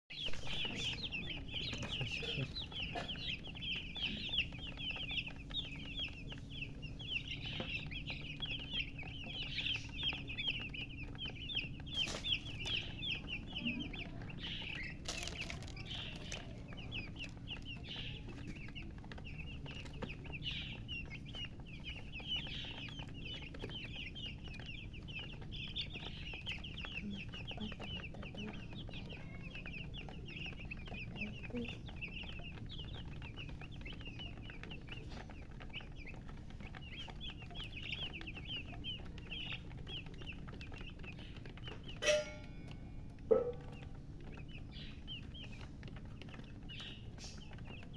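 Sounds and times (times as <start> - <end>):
chicks peeping: 0.1 - 47.9.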